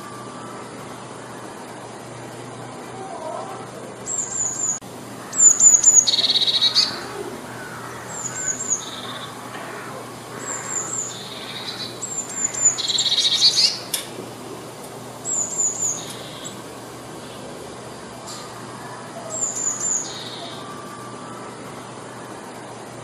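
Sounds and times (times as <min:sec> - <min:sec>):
bird trilling: 0:02.9 - 0:22.3.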